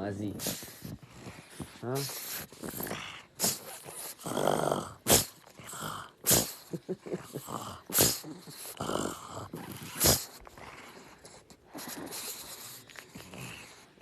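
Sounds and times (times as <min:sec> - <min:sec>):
dog making rough vocal sounds: 0:00.0 - 0:14.0.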